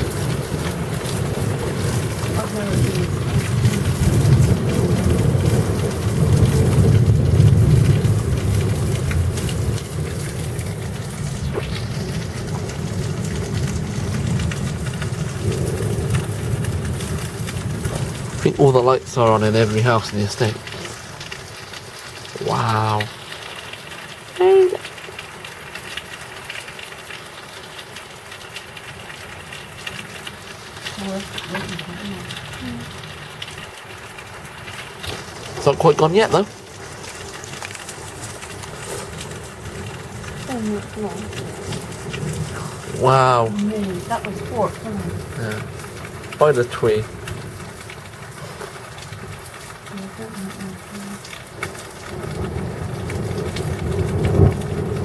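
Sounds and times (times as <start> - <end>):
rolling thunder: 0.0 - 23.2, 29.6 - 55.0
steady rain falling: 0.0 - 55.0.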